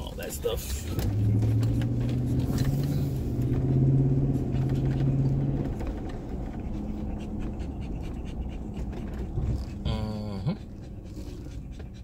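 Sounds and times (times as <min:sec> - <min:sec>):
vehicle engine hum from cabin: 0:00.0 - 0:12.0.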